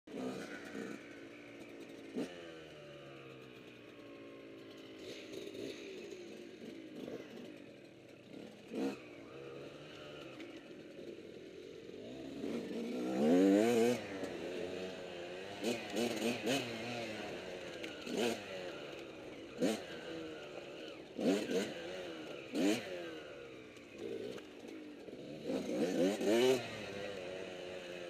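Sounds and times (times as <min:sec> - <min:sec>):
dirt bike engine revving: 0:00.1 - 0:28.0.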